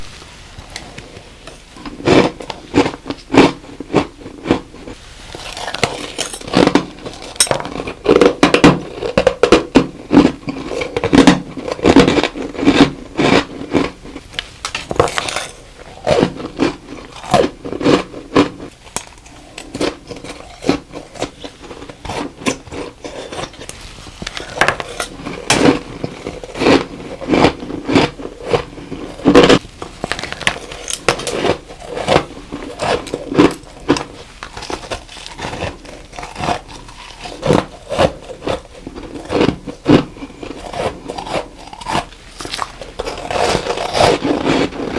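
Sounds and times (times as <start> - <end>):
crunching frost ice: 1.8 - 44.9.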